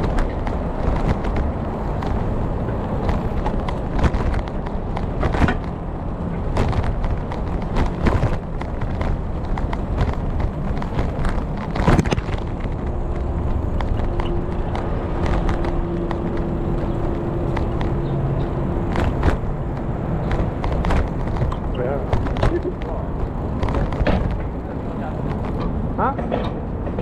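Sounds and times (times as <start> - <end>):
wind and road rumble: 0.0 - 27.0.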